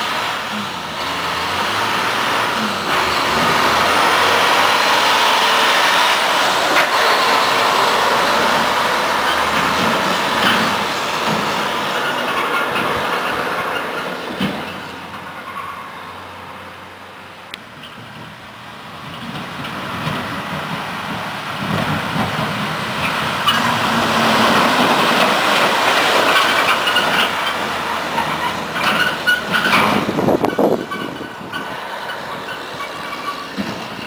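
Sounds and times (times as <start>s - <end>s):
dump truck diesel engine passing: 0.0s - 34.0s.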